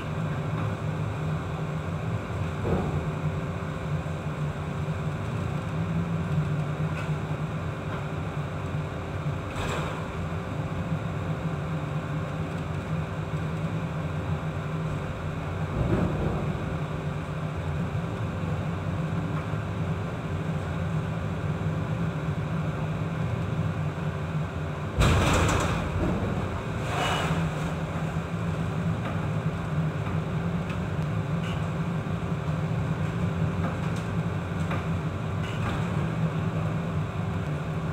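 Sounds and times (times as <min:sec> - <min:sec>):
wind: 0:00.0 - 0:37.9.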